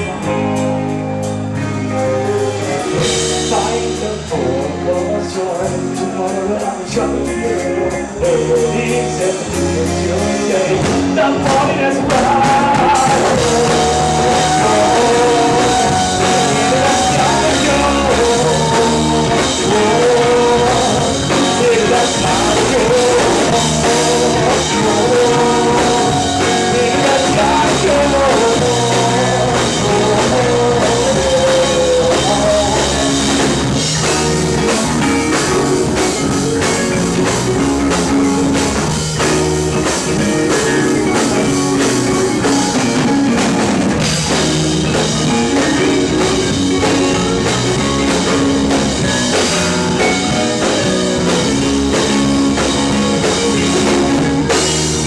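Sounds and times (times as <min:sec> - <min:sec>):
drum kit: 0:00.0 - 0:55.0
rock band playing live: 0:00.0 - 0:55.0
person singing: 0:01.9 - 0:55.0.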